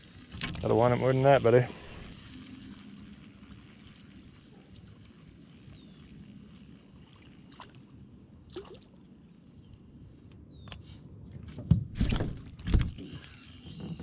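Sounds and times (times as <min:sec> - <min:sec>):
open water ambience: 0:00.0 - 0:14.0.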